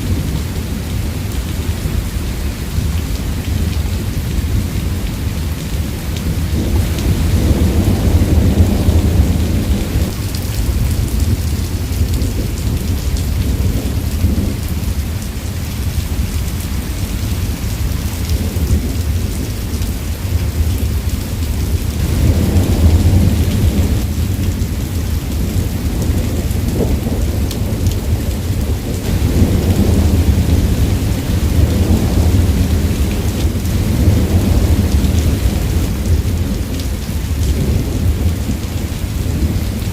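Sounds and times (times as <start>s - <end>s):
rain hissing: 0.0s - 39.9s
rolling thunder: 2.8s - 39.9s.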